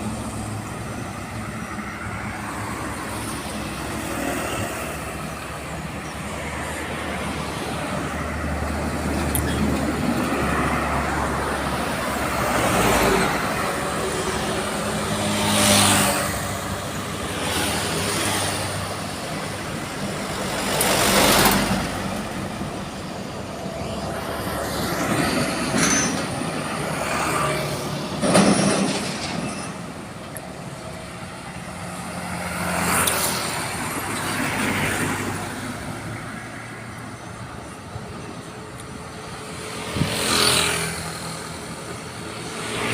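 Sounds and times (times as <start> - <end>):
heavy trucks passing: 0.0 - 42.9.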